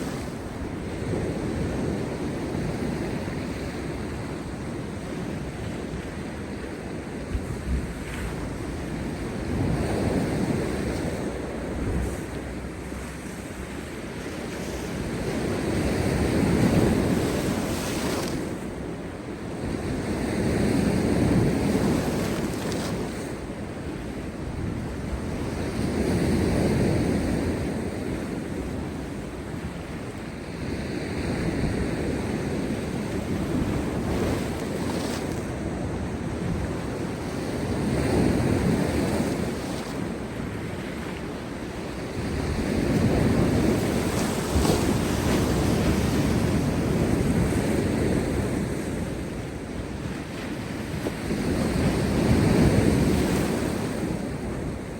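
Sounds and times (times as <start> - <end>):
wind buffeting microphone: 0.0 - 54.9
waves breaking on rocks: 6.0 - 30.0, 30.9 - 54.9.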